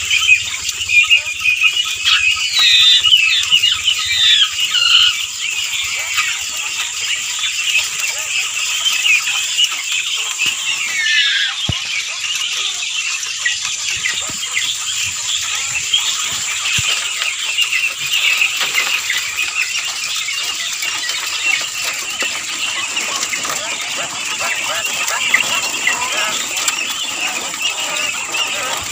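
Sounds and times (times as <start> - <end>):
quail chirping: 0.0 - 28.9
quail falling call: 0.0 - 28.9.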